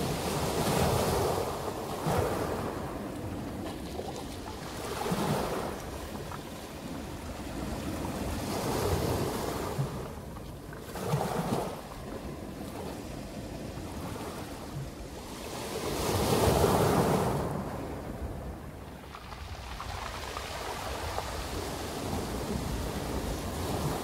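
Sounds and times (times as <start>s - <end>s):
waves breaking on pebble beach: 0.0s - 14.6s, 15.2s - 24.0s.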